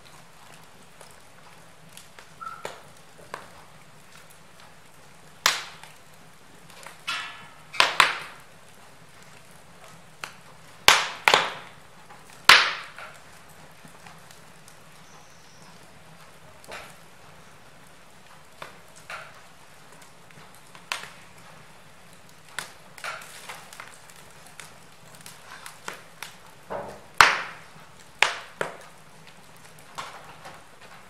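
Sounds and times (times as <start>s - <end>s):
burning wood popping: 0.0s - 31.0s
log fire crackling: 0.0s - 31.0s.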